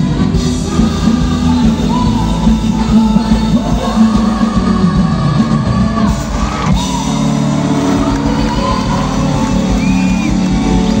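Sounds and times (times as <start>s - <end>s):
bass guitar: 0.0s - 11.0s
drums: 0.0s - 11.0s
person singing: 0.0s - 11.0s.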